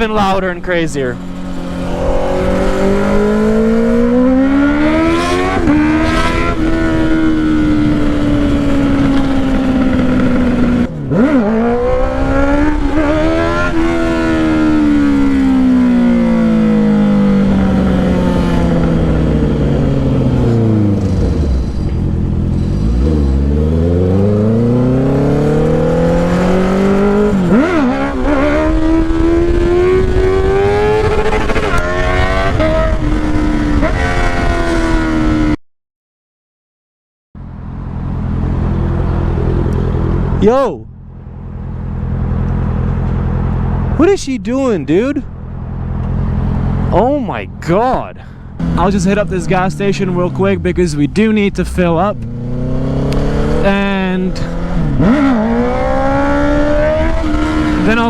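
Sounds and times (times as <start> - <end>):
motorcycle engine revving: 0.0 - 35.6, 37.4 - 58.0.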